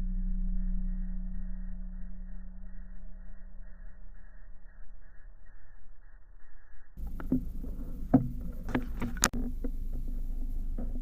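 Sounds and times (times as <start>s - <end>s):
muffled low hum: 0.0s - 11.0s
steady low rumble: 0.0s - 11.0s.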